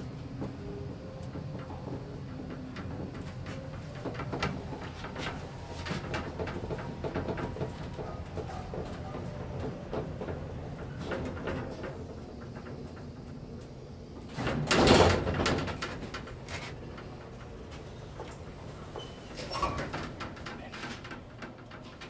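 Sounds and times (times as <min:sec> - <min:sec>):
elevator doors sliding: 0:00.0 - 0:22.0.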